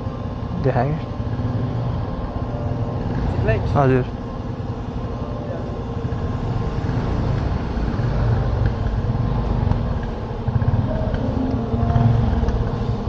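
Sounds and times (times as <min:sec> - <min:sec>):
motor vehicle engines rumbling: 0:00.0 - 0:13.0.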